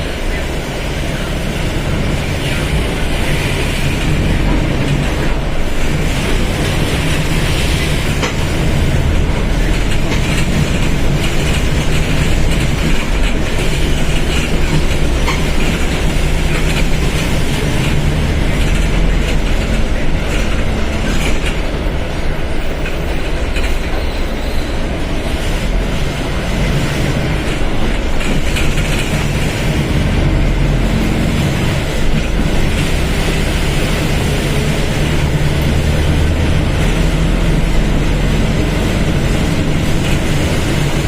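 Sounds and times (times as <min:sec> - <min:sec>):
bus diesel engine running: 0:00.0 - 0:41.0
road noise: 0:00.0 - 0:41.0
bus body rattling clicks: 0:03.2 - 0:24.2, 0:24.8 - 0:41.0.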